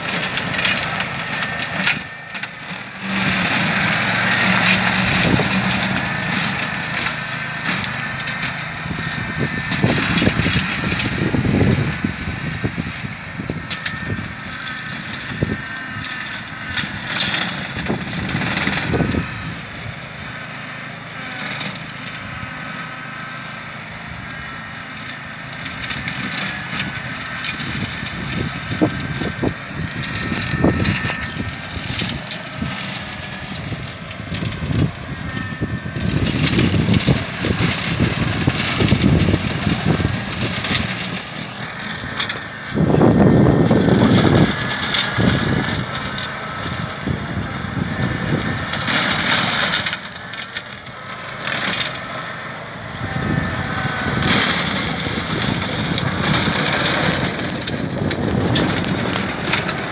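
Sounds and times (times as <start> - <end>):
sharp cracking and crunching: 0.0 - 19.8, 21.4 - 59.9
brush cutter engine running: 0.0 - 59.9.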